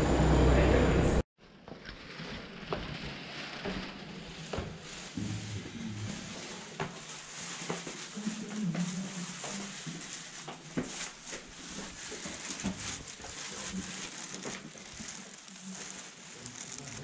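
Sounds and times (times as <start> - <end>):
footsteps: 1.7 - 17.0.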